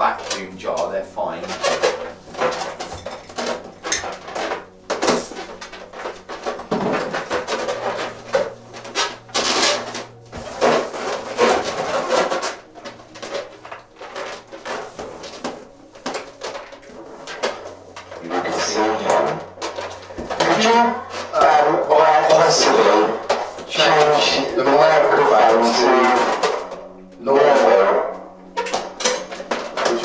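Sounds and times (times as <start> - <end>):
balloons rubbing and squeaking: 0.0 - 30.0.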